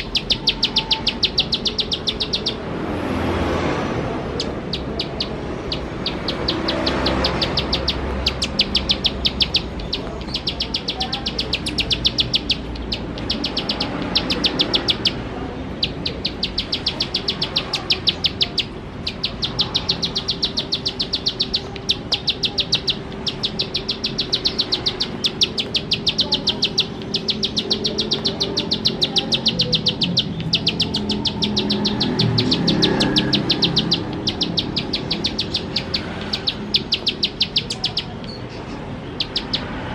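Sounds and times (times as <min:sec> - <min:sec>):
bird singing sharp ticking notes: 0:00.0 - 0:02.7, 0:04.4 - 0:39.9.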